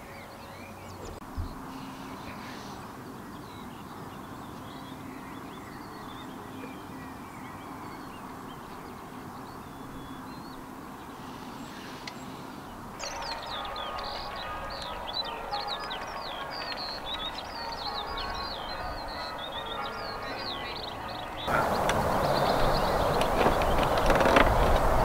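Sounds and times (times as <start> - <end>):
birds chirping: 0.0 - 25.0
steady outdoor hiss: 0.0 - 25.0.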